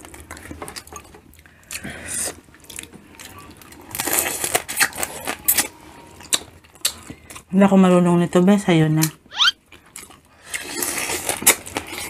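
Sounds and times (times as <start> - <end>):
chewing shrimp: 0.0 - 7.5, 9.0 - 12.0.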